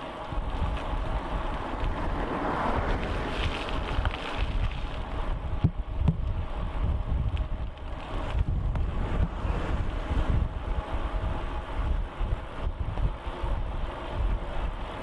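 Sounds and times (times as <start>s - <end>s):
wind buffeting microphone: 0.0s - 15.0s
low rumble: 0.4s - 14.3s.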